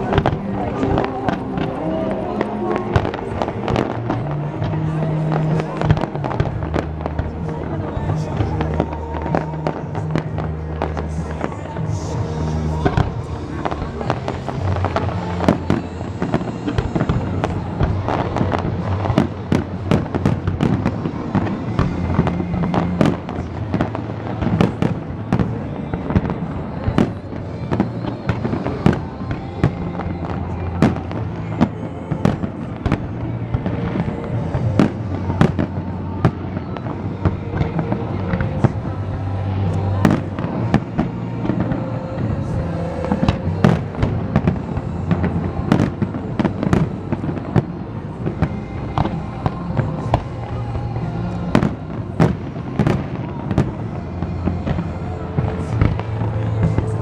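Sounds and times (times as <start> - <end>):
fireworks bursting: 0.0 - 57.0
music with steady bass: 0.0 - 57.0.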